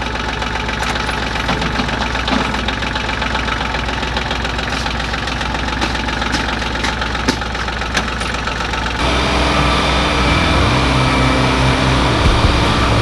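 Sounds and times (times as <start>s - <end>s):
engine running with ticking: 0.0s - 13.0s.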